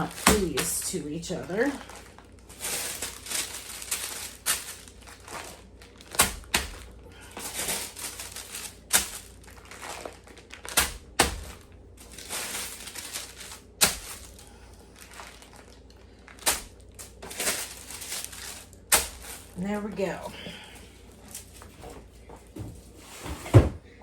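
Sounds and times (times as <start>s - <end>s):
paper rustling and crinkling: 0.0s - 19.6s, 20.6s - 23.6s.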